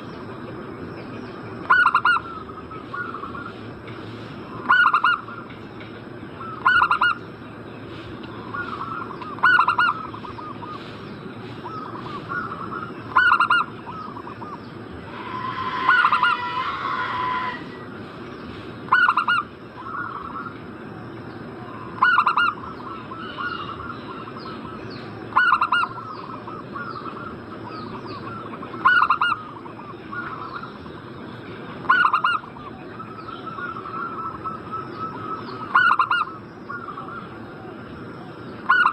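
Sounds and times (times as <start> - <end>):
soft bird chatter: 0.0 - 38.9
doves cooing: 1.5 - 5.6, 6.3 - 31.1, 31.8 - 38.9.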